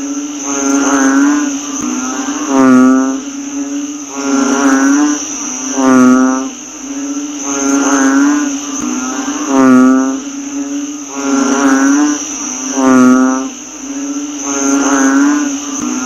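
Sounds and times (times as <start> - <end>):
droning frog chorus: 0.0 - 16.0
high insect hiss: 0.0 - 16.0
loud drawn-out frog call: 0.0 - 16.0.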